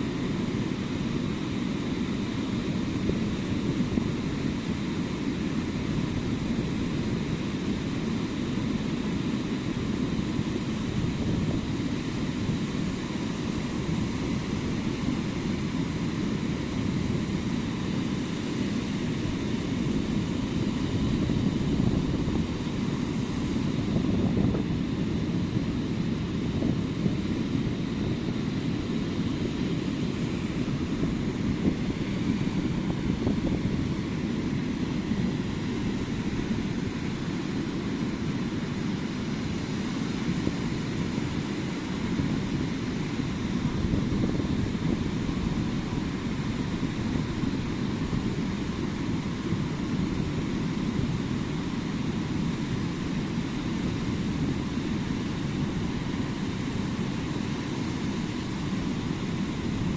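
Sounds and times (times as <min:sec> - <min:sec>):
ocean surf rumble: 0:00.0 - 0:59.9.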